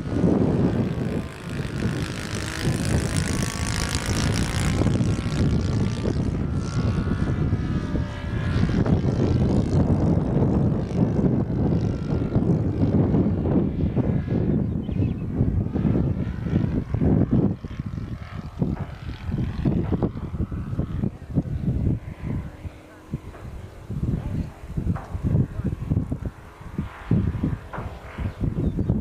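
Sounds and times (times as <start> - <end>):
model airplane engine buzzing: 0.0 - 29.0
wind buffeting microphone: 0.0 - 29.0.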